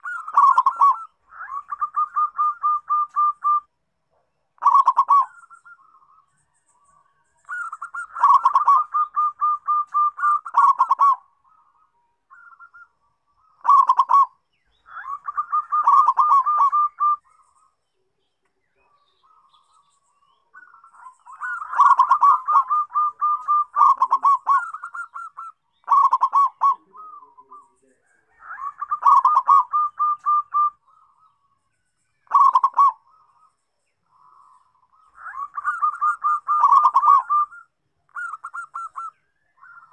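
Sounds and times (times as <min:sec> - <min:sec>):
dove cooing: 0:00.0 - 0:06.6, 0:07.4 - 0:17.6, 0:18.8 - 0:31.5, 0:32.2 - 0:33.5, 0:34.1 - 0:39.9.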